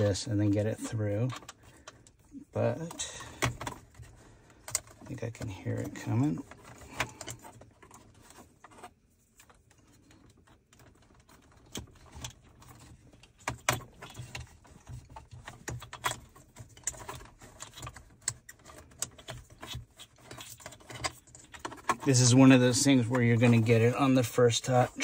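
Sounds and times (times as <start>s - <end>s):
cable rubbing against plastic trim: 0.0s - 25.0s.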